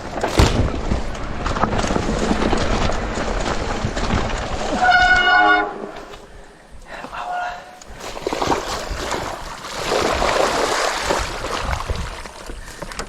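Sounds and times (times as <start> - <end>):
bike tyres rumbling over rocks: 0.0 - 7.2, 7.8 - 13.0.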